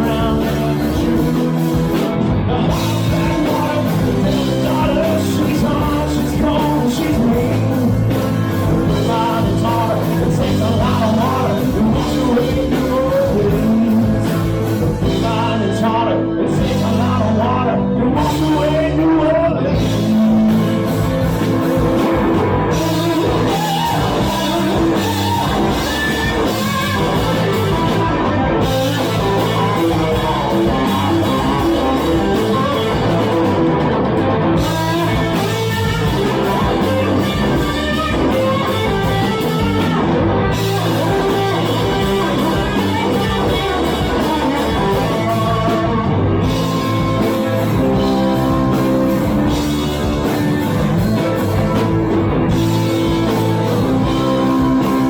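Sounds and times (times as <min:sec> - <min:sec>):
drum kit: 0:00.0 - 0:55.0
electric guitar: 0:00.0 - 0:55.0
rock band playing: 0:00.0 - 0:55.0.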